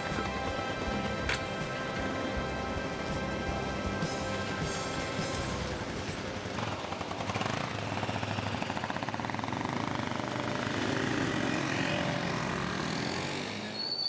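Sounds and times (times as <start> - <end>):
motorcycle engine running: 0.0 - 13.6
passing street traffic: 0.0 - 14.0.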